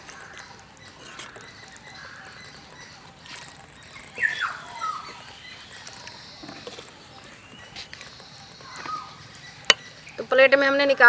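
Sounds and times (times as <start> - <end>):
bird chirping: 0.0 - 11.0
faint outdoor hush: 0.0 - 11.0.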